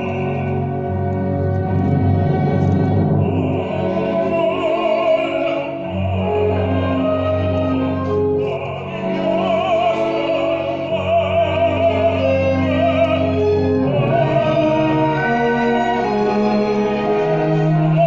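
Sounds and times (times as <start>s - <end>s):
operatic singing: 0.0s - 18.0s
orchestral accompaniment: 0.0s - 18.0s.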